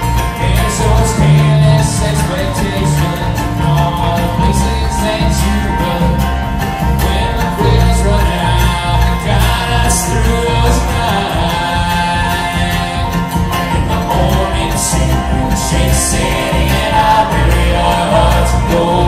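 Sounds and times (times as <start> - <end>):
bluegrass band playing: 0.0 - 19.0
plucked bass line: 0.0 - 19.0.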